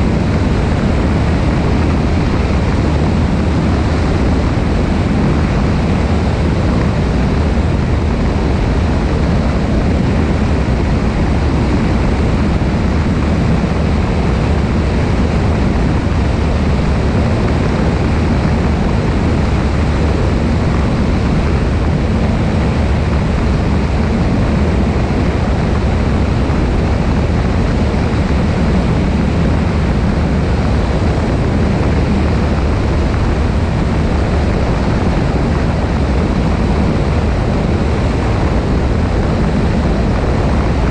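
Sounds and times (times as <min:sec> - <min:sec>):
airplane engine and propeller drone: 0:00.0 - 0:40.9
wind rush: 0:00.0 - 0:40.9.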